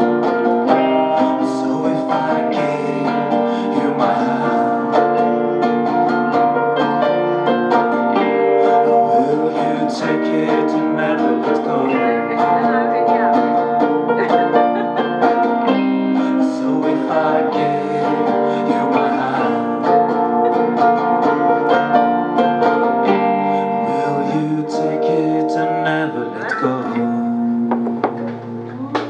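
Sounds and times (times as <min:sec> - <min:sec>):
plucked string instrumental music: 0:00.0 - 0:29.0.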